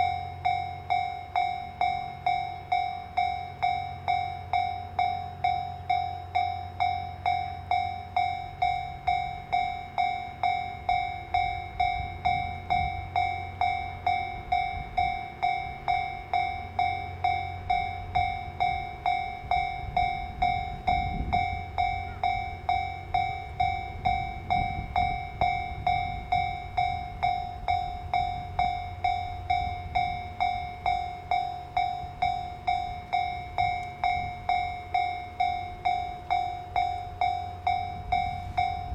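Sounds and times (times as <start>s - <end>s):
level crossing warning bell: 0.0s - 38.9s
low train rumble: 0.0s - 38.9s.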